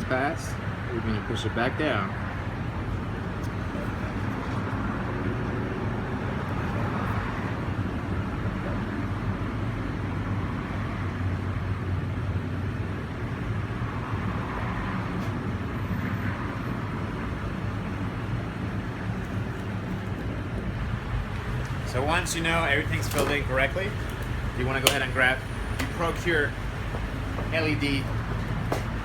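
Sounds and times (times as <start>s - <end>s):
road traffic noise: 0.0s - 29.0s
low engine hum: 2.3s - 29.0s.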